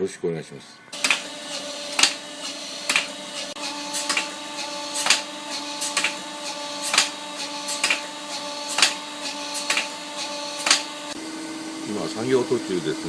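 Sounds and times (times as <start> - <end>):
grinding machine grinding metal: 1.0 - 13.0.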